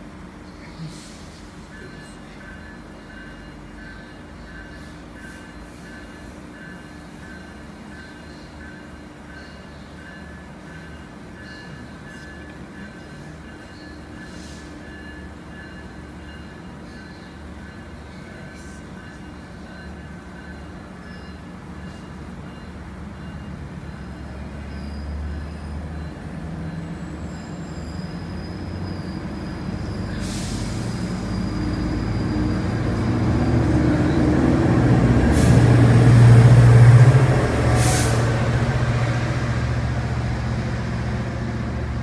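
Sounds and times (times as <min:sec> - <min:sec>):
diesel locomotive engine drone: 0:00.0 - 0:42.0
train coaches clattering: 0:00.0 - 0:42.0.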